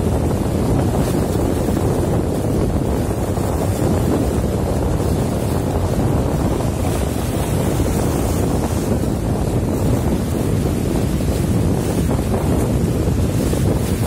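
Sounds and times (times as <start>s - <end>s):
sea water rushing around boat: 0.0s - 14.0s
wind buffeting microphone: 0.0s - 14.0s.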